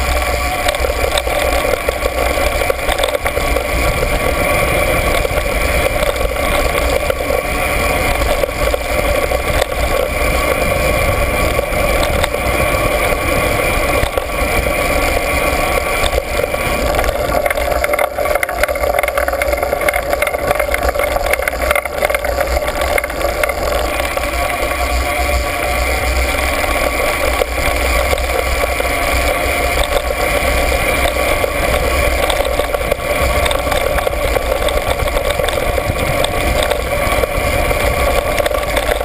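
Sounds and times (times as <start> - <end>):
steady drone: 0.0 - 39.0
wind rumble on microphone: 0.0 - 39.0.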